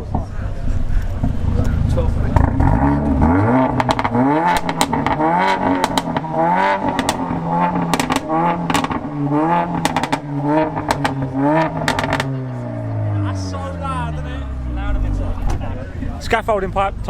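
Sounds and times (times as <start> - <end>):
exhaust pops and crackles: 0.0 - 13.6, 14.9 - 16.9
car engine revving: 0.0 - 17.0.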